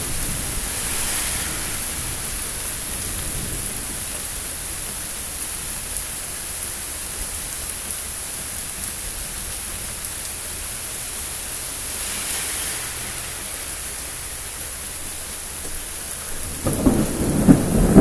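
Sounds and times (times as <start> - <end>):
steady rain hissing: 0.0 - 18.0.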